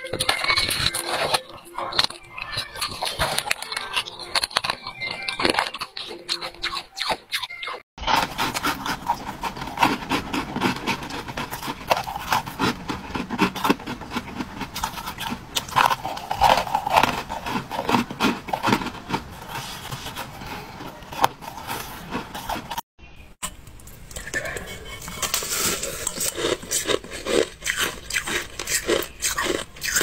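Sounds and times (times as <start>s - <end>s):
ice being chewed crunching: 0.0s - 22.8s, 23.5s - 30.0s.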